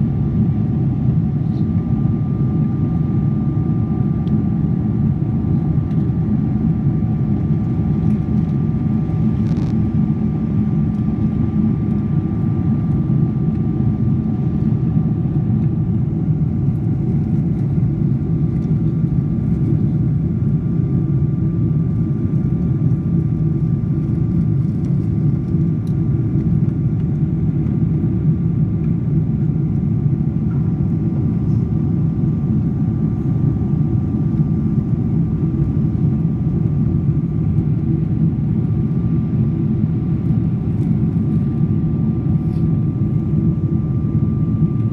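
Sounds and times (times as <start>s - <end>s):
airliner engine drone: 0.0s - 44.9s
faint steady whine: 0.0s - 44.9s.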